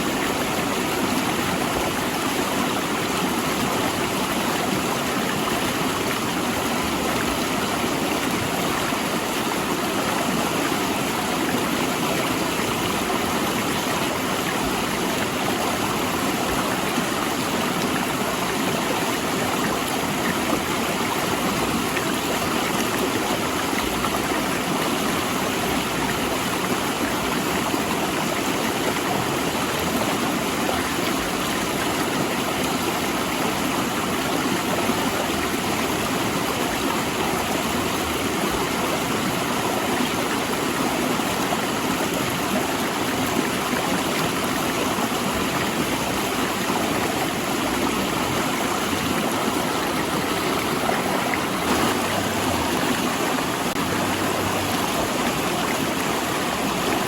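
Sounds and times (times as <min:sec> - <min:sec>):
river rushing over boulders: 0:00.0 - 0:57.0.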